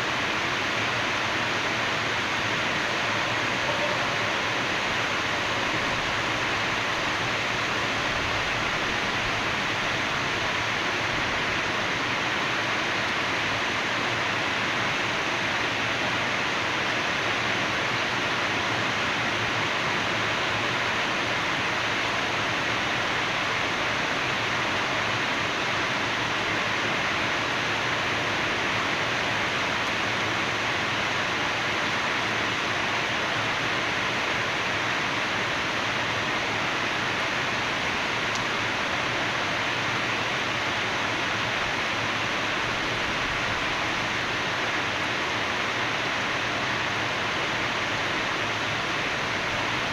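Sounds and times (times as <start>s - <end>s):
steady rainfall: 0.0s - 49.9s.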